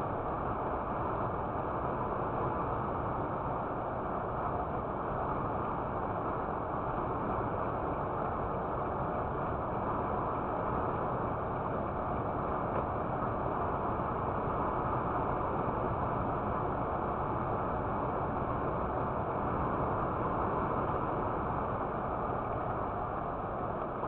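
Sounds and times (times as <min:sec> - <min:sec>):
truck road and engine noise: 0:00.0 - 0:24.0.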